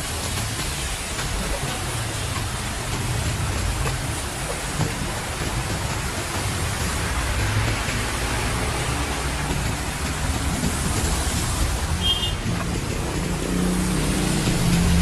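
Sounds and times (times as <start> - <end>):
heavy rain hissing: 0.0 - 15.0
wind: 0.0 - 15.0.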